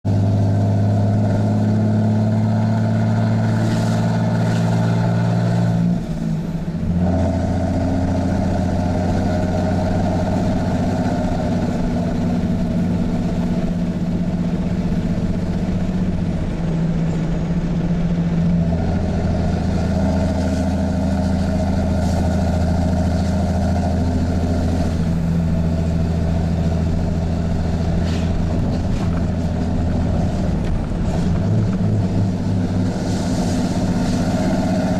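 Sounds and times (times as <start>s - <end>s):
diesel truck engine under load: 0.0s - 34.9s.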